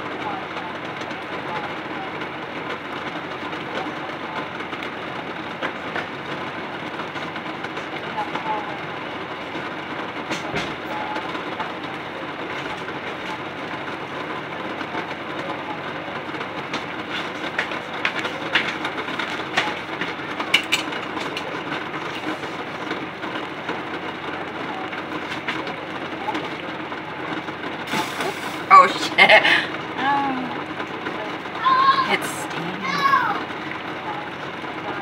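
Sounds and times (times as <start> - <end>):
water boiling and bubbling: 0.0 - 35.0.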